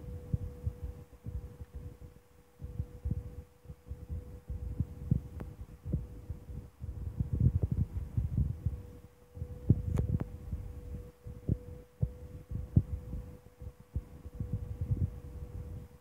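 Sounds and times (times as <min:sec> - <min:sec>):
low thumps and rumbling: 0:00.0 - 0:16.0.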